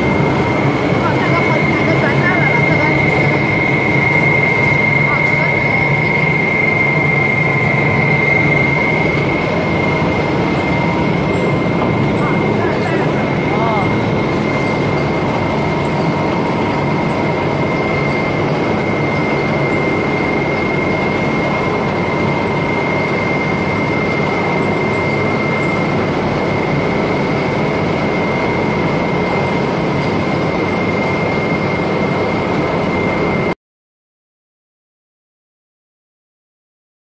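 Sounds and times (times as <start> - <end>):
constant high whine: 0.0 - 33.6
steady mechanical noise: 0.0 - 33.6.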